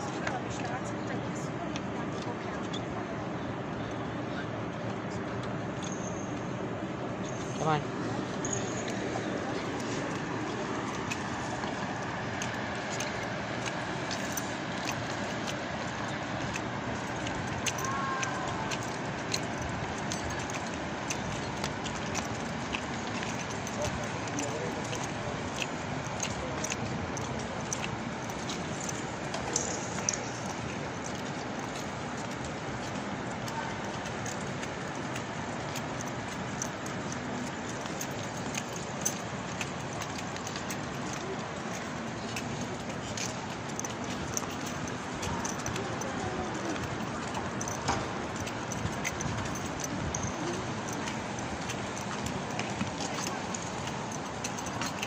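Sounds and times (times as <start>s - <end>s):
city background rumble: 0.0s - 55.0s.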